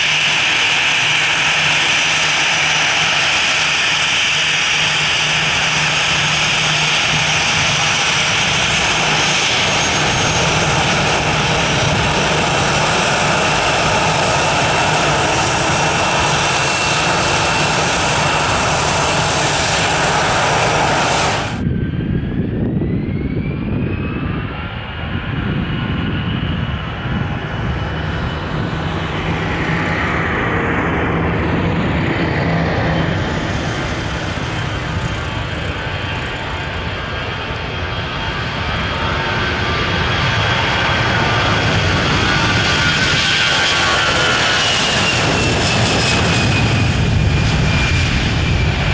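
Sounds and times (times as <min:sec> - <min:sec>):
jet engines spooling up: 0:00.0 - 0:48.9
jet engines whining: 0:00.0 - 0:48.9.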